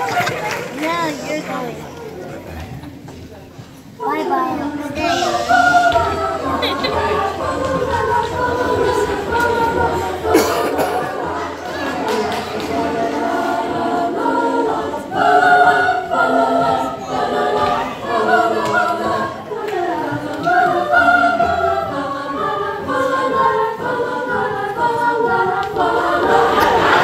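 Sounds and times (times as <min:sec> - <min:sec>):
choir singing: 0:04.0 - 0:27.0.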